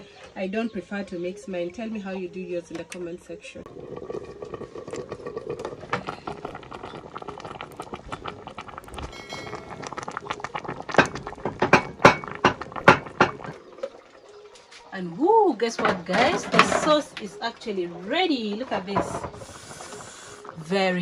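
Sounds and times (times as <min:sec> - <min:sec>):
soup boiling and bubbling: 0:03.6 - 0:21.0.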